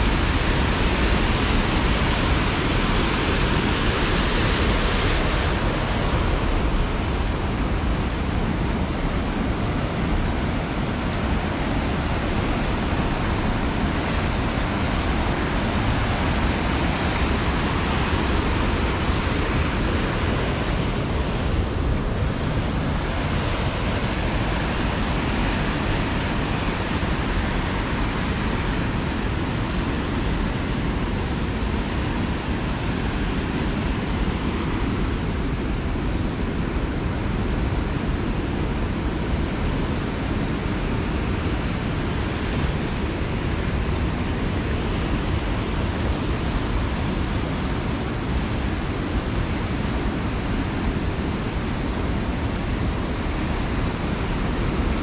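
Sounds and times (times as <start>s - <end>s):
river water rushing over weirs: 0.0s - 55.0s
wind rumbling on microphone: 0.0s - 55.0s.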